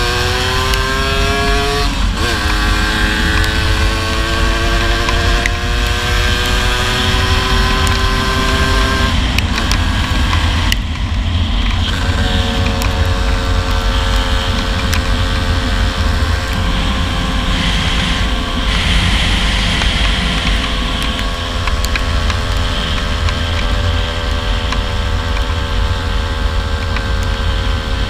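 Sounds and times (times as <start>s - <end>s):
deep rumble: 0.0s - 28.0s
two-stroke motorcycle engine riding: 0.0s - 28.0s.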